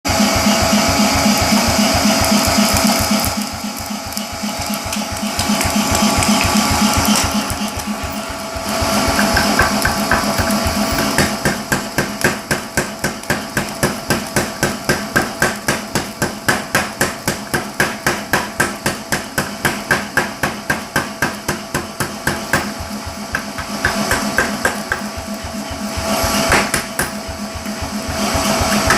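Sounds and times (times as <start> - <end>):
hammer blows on hot steel: 0.1 - 28.9
steady hum: 0.1 - 28.9.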